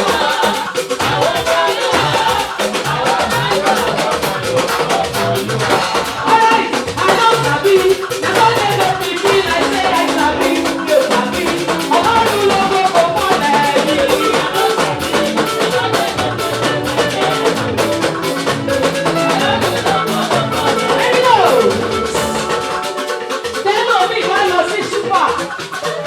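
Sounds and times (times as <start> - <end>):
drum kit: 0.0 - 26.0
guitar: 0.0 - 26.0
live gospel band playing: 0.0 - 26.0.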